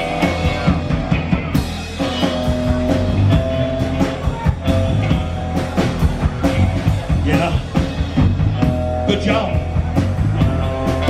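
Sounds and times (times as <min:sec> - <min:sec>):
bass guitar: 0:00.0 - 0:11.0
drum beat: 0:00.0 - 0:11.0
electric guitar: 0:00.0 - 0:11.0.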